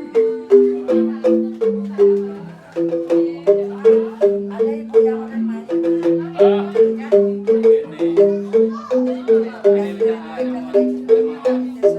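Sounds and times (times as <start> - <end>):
bamboo xylophone played with mallets: 0.0 - 11.9.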